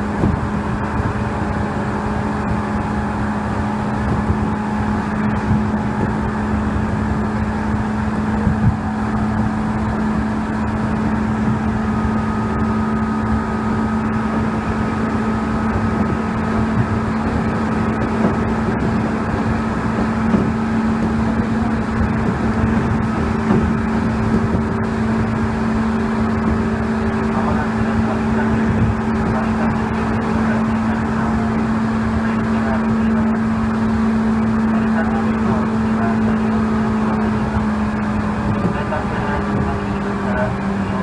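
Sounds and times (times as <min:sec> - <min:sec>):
electric train rumble: 0:00.0 - 0:41.0
high motor whine: 0:00.0 - 0:41.0.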